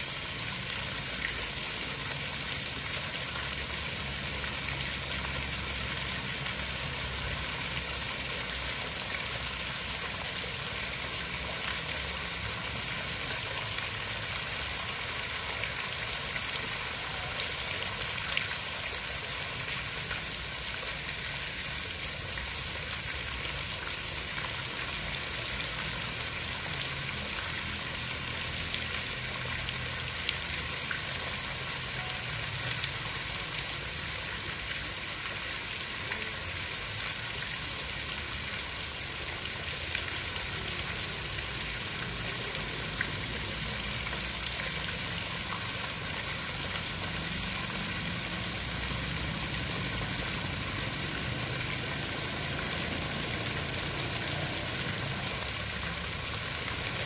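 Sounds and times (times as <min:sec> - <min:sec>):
water hiss with low rumble: 0:00.0 - 0:57.0.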